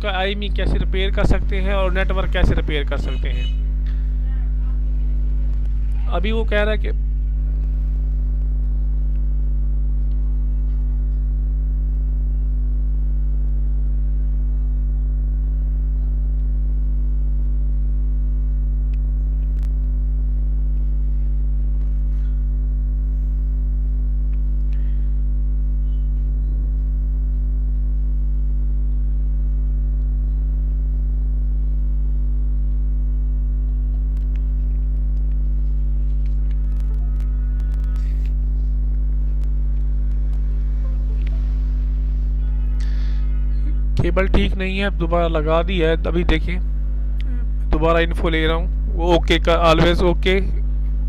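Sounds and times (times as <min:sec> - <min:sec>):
electrical mains hum: 0:00.0 - 0:51.0.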